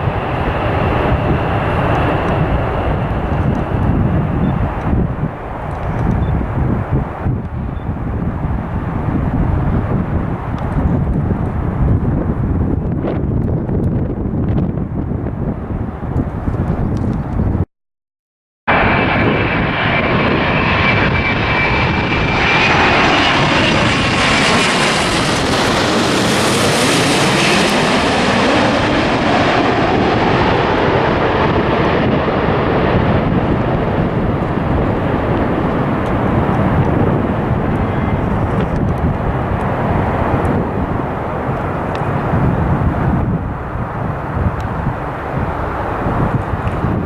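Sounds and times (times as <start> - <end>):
jet airliner passing: 0.0 - 17.6, 18.7 - 47.0.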